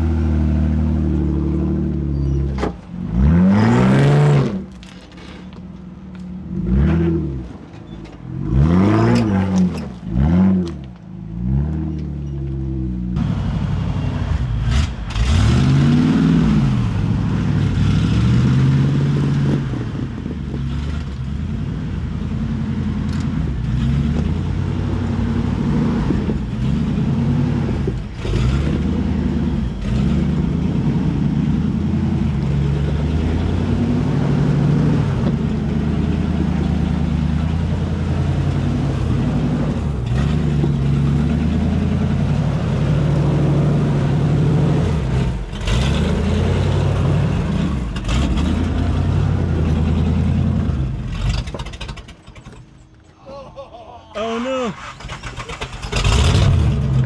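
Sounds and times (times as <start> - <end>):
engine revving: 0.0 - 4.8, 6.4 - 7.6, 8.4 - 12.2, 13.0 - 52.1, 54.8 - 57.0.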